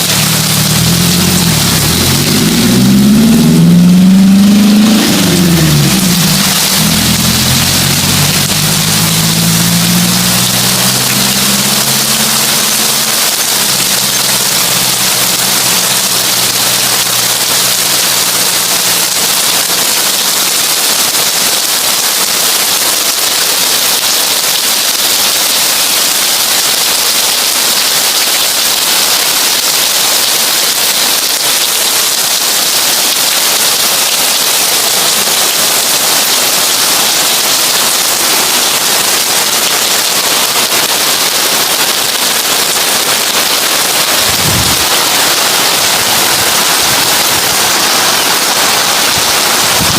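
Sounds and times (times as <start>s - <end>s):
heavy rain on a tin roof: 0.0s - 49.9s.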